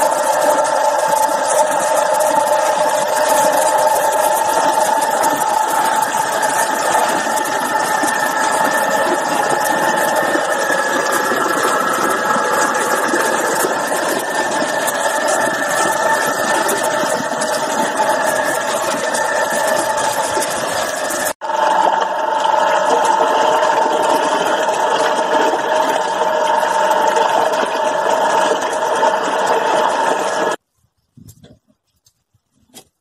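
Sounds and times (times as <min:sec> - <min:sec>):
machine motor running: 0:00.0 - 0:30.6.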